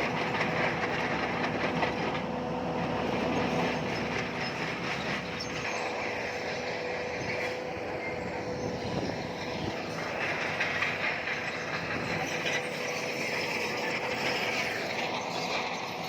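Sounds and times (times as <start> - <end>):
diesel engine running: 0.0 - 16.0
steel tracks clanking and squeaking: 0.0 - 16.0.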